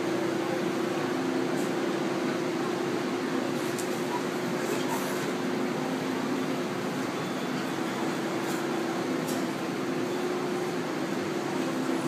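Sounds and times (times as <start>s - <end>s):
train hum and rumble: 0.0s - 12.0s.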